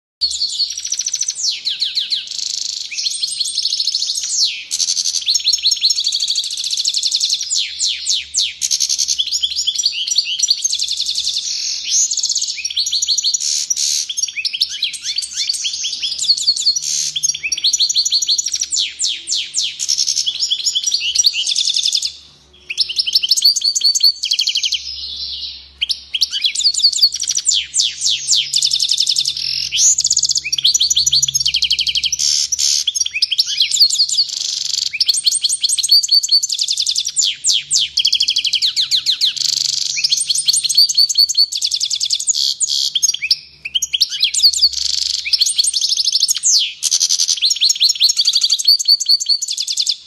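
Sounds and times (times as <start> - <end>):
goldfinch twittering song: 0.2 - 50.0.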